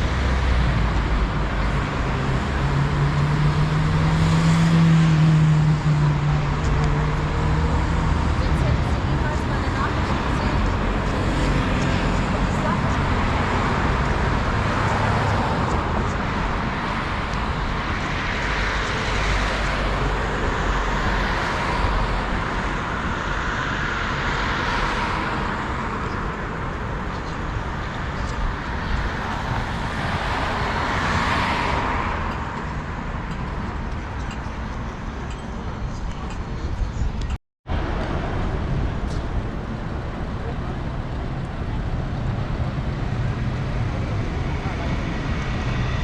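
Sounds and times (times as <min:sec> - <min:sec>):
passing cars road noise: 0:00.0 - 0:46.0.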